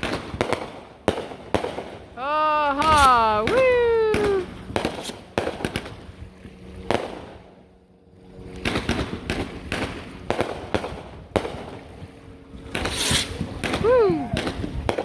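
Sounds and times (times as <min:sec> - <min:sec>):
fireworks booming: 0:00.0 - 0:06.2, 0:06.8 - 0:07.5, 0:08.6 - 0:12.0, 0:12.7 - 0:15.0.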